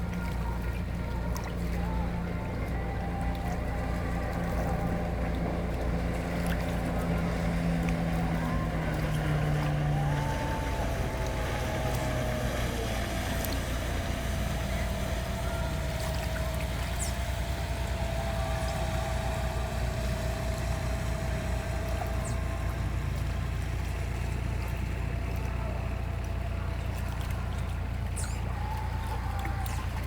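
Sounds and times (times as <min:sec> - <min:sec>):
faint steady hum: 0:00.0 - 0:30.0
motor running low rumble: 0:00.0 - 0:30.0.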